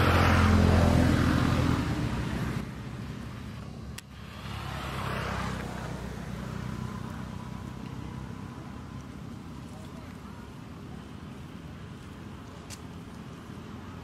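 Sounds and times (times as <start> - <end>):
vehicles passing: 0.0 - 14.0.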